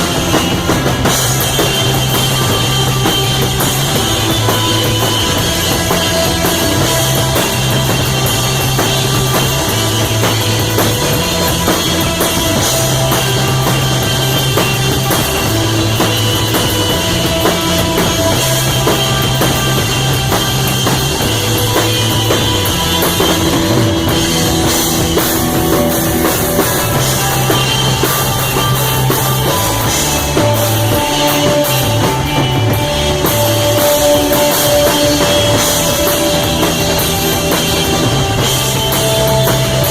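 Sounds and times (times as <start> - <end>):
bass line: 0.0 - 39.9
drum kit with busy cymbals: 0.0 - 39.9
electric guitar: 0.0 - 39.9.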